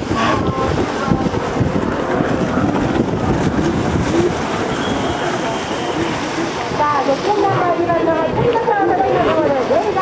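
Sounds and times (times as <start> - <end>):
jet ski engines droning: 0.0 - 10.0
wind buffeting microphone: 0.0 - 10.0.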